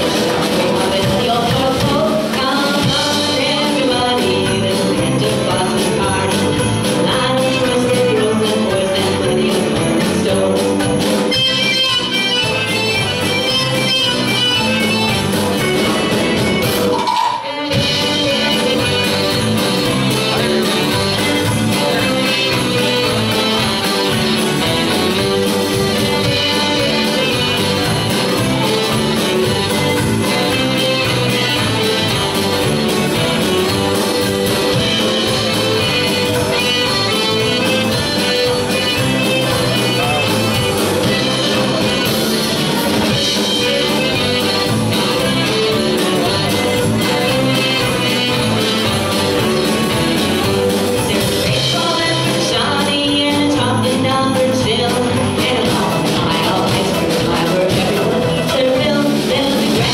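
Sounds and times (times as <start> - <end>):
country band playing: 0.0 - 59.9
saxophone lead: 0.0 - 59.9.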